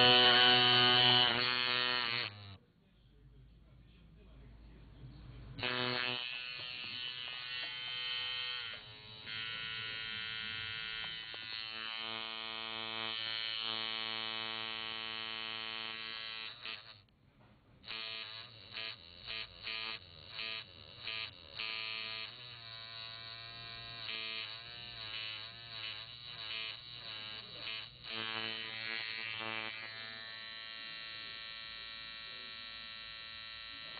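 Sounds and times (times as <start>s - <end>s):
tattoo machine buzzing: 0.0s - 2.6s, 5.6s - 17.1s, 17.8s - 33.9s.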